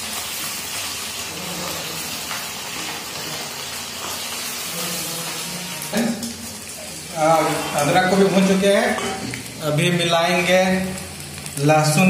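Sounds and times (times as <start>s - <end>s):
onions frying in hot oil: 0.0s - 12.0s.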